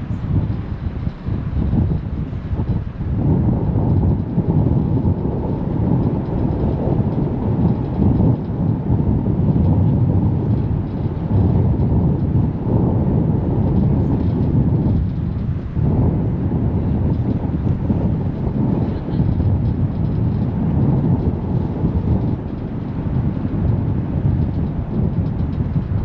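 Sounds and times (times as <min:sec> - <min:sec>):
ferry engine: 0:00.0 - 0:26.0
wind buffeting microphone: 0:00.0 - 0:26.0.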